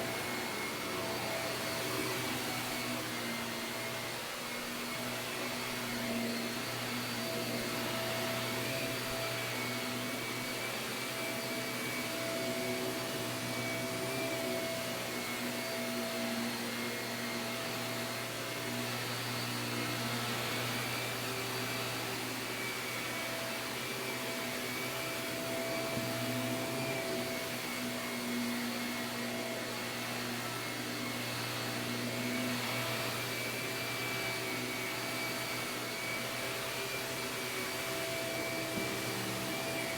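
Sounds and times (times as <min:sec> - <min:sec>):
vacuum cleaner motor humming: 0:00.0 - 0:39.9.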